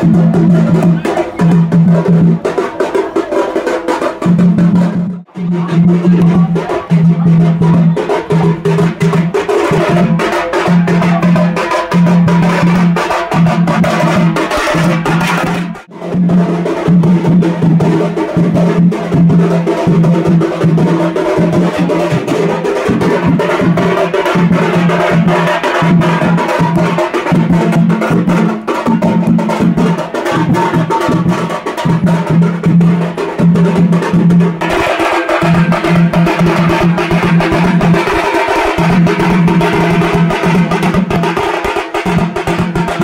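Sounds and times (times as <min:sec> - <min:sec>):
barrel drum beaten with sticks: 0:00.0 - 0:43.0.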